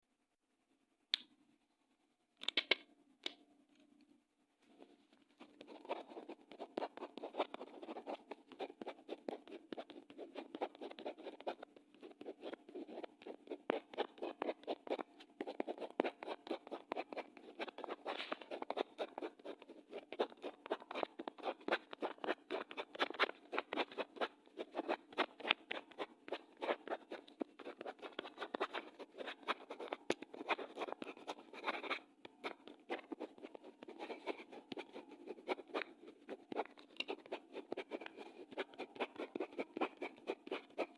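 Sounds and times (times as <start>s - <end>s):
pen scratching on paper: 5.4s - 40.9s.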